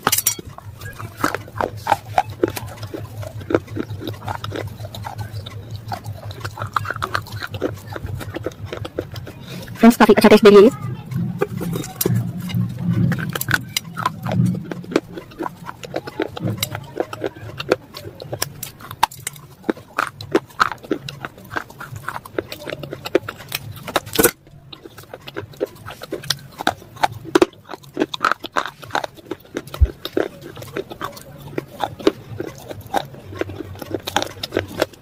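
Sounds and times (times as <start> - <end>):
crunching and chewing: 0.0 - 35.0.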